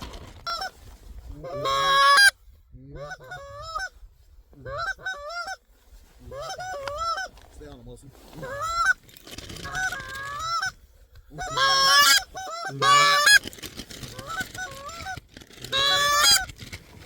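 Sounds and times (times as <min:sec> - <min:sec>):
goose call honks and clucks: 0:00.2 - 0:00.8, 0:01.4 - 0:05.6, 0:06.2 - 0:07.5, 0:08.3 - 0:16.7.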